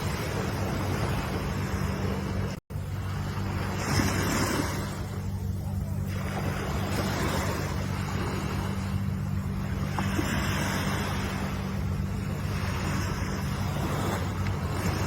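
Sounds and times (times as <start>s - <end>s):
low surf rumble: 0.0s - 15.0s
ocean waves rushing: 0.0s - 15.0s.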